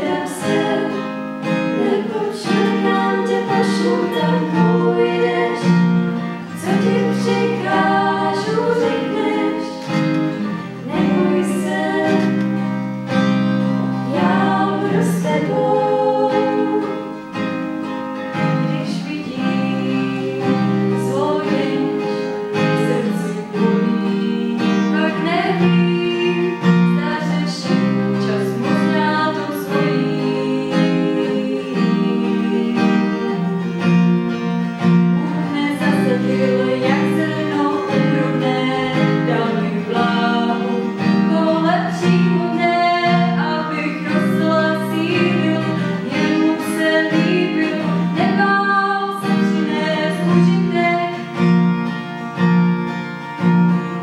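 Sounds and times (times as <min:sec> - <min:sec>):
woman singing: 0:00.0 - 0:10.0, 0:10.7 - 0:12.6, 0:14.0 - 0:17.2, 0:18.5 - 0:33.6, 0:35.2 - 0:51.4
acoustic guitar: 0:00.0 - 0:54.0.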